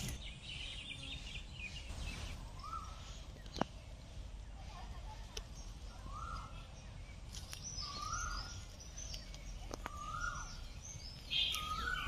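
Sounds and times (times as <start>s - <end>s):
faint high bird chirps: 0.0s - 12.0s
low outdoor background: 0.0s - 12.0s.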